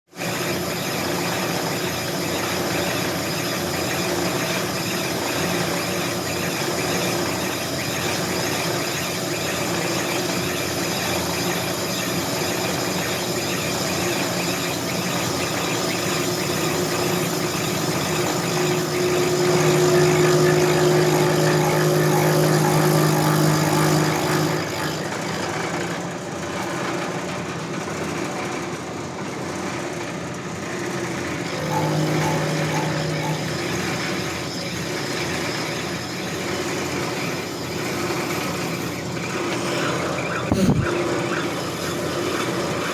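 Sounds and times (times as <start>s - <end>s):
brake lathe cutting whine: 0.1s - 42.9s.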